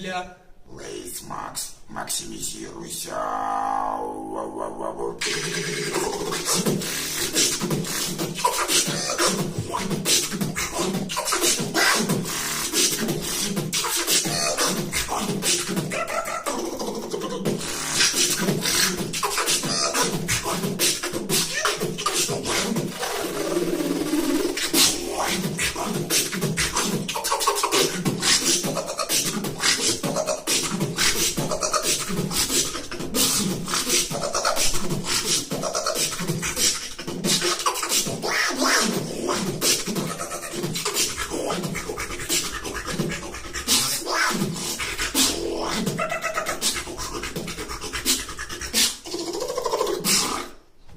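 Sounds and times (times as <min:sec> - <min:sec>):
man beatboxing: 0:00.8 - 0:50.6.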